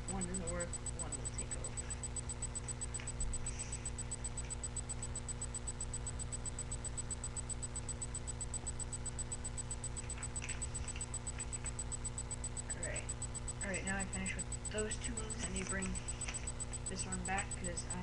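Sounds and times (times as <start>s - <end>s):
fast even ticking: 0.0s - 18.0s
low electrical hum: 0.0s - 18.0s.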